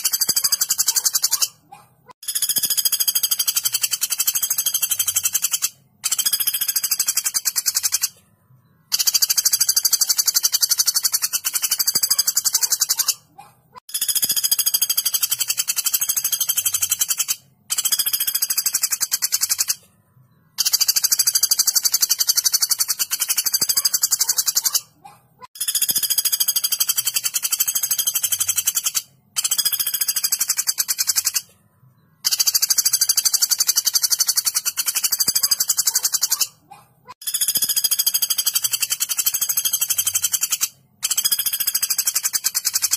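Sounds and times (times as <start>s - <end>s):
woodpecker rattling trills: 0.0s - 8.2s, 8.8s - 19.8s, 20.5s - 31.5s, 32.2s - 42.9s.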